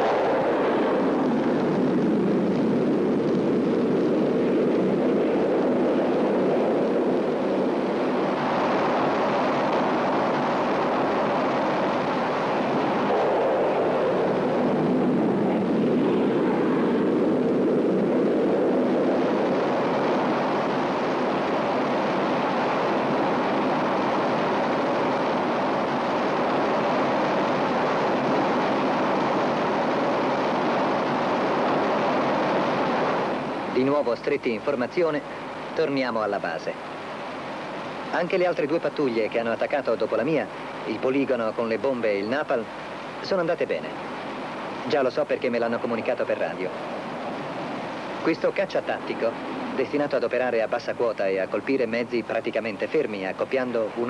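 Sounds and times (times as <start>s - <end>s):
jet engines roaring in flight: 0.0s - 54.0s.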